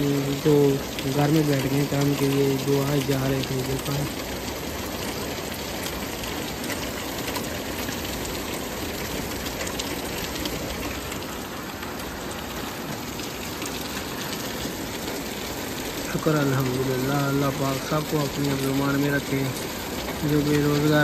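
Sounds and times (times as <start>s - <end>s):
faint rain ticks: 0.0s - 21.0s
heavy rain on pavement: 0.0s - 21.0s.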